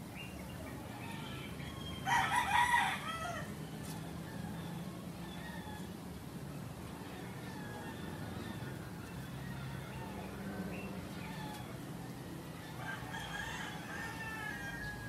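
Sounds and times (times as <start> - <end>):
birds chirping: 0.0 - 15.0
rooster crowing: 0.9 - 5.9, 7.0 - 11.8, 12.6 - 15.0.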